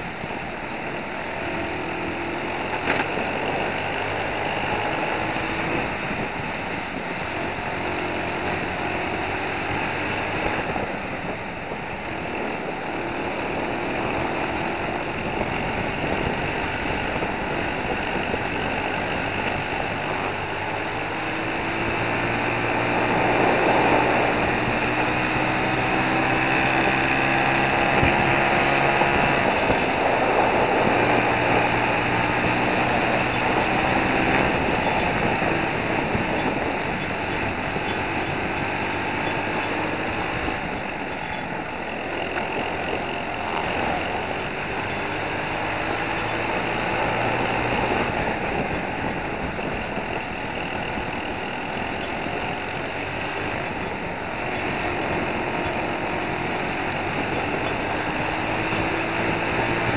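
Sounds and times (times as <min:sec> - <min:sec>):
kart engine accelerating: 0:00.0 - 0:59.9
wind noise on microphone: 0:00.0 - 0:59.9.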